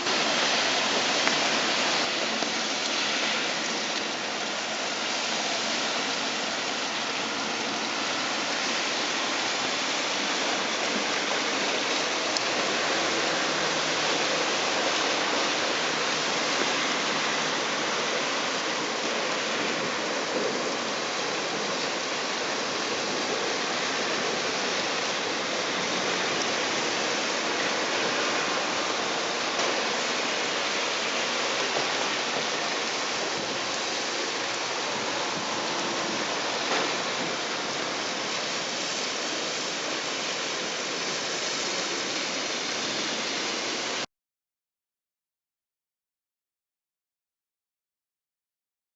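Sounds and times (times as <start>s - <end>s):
heavy rain: 0.0s - 44.1s
storm water running: 0.0s - 44.1s.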